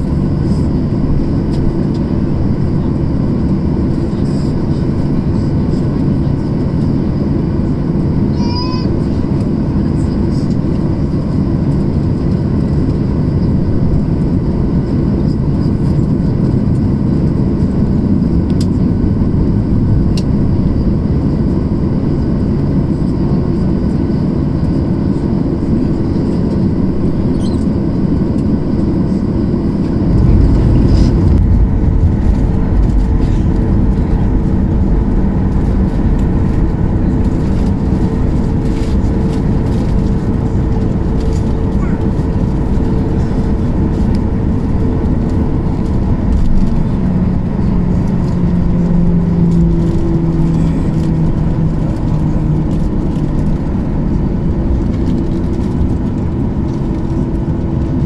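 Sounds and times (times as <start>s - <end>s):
jet engine hum in cabin: 0.0s - 58.0s.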